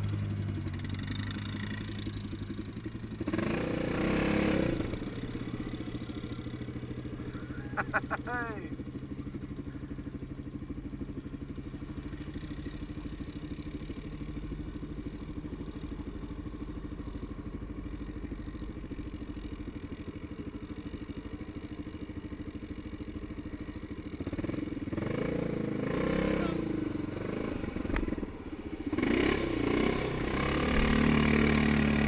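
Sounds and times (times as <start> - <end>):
atv engine idling: 0.0 - 32.0.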